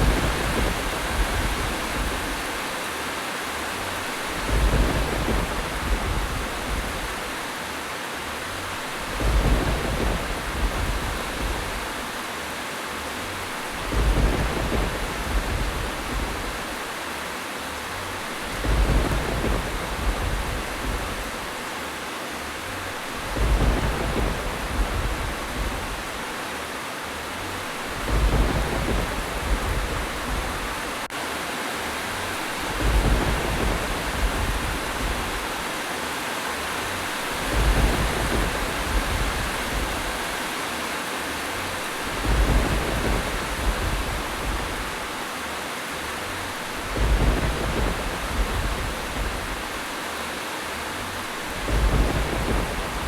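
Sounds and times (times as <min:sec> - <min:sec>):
low rumble of thunder: 0:00.0 - 0:02.8, 0:03.6 - 0:07.5, 0:08.4 - 0:12.2, 0:13.1 - 0:17.0, 0:18.0 - 0:21.8, 0:22.6 - 0:26.4, 0:27.3 - 0:31.1, 0:32.1 - 0:35.8, 0:36.7 - 0:40.6, 0:41.5 - 0:45.3, 0:46.2 - 0:50.0, 0:50.9 - 0:53.0
steady rain hiss: 0:00.0 - 0:53.0.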